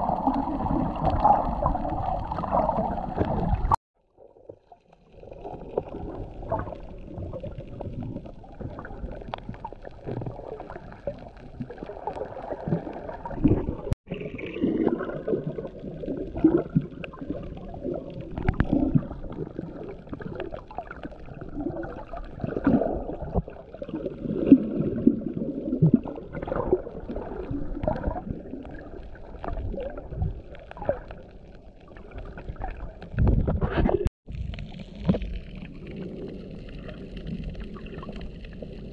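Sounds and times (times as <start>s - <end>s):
underwater water sloshing and gurgling: 0.0s - 38.9s.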